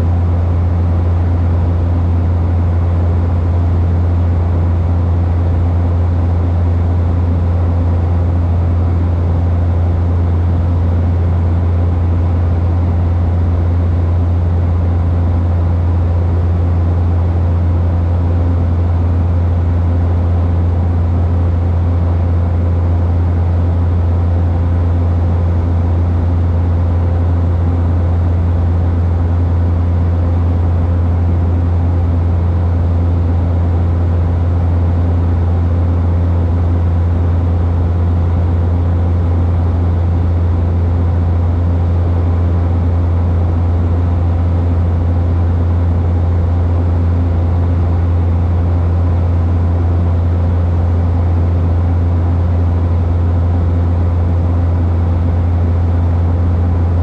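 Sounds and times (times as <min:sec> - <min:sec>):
turboprop cabin drone: 0:00.0 - 0:57.0.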